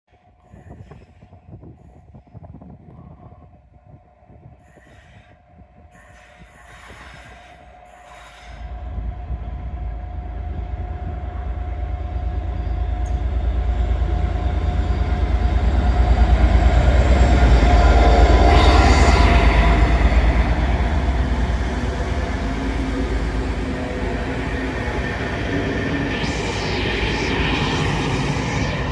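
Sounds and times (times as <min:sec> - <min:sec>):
high whine of train wheels: 0:00.1 - 0:28.9
train rumbling: 0:00.1 - 0:28.9.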